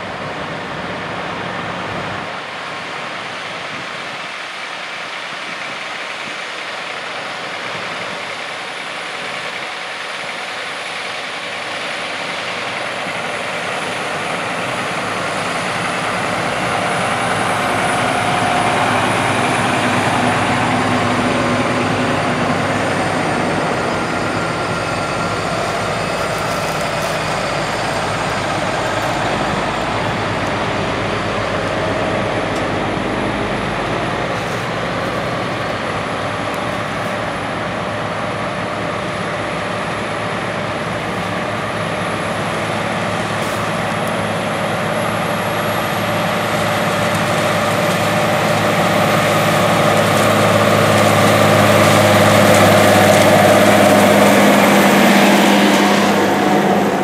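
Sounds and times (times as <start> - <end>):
heavy farm machinery running: 0.0 - 57.0.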